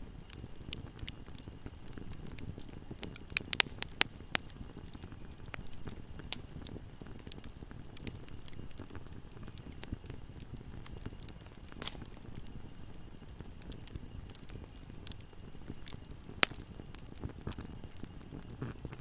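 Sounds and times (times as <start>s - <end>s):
campfire crackling: 0.0s - 19.0s
sharp pops of burning wood: 0.1s - 19.0s.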